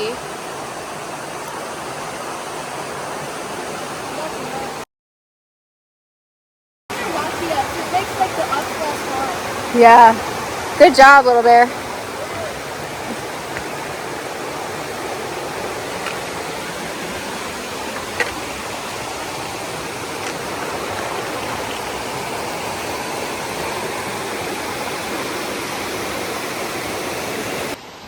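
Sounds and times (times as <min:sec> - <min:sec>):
river rushing: 0:00.0 - 0:04.8, 0:06.9 - 0:28.0.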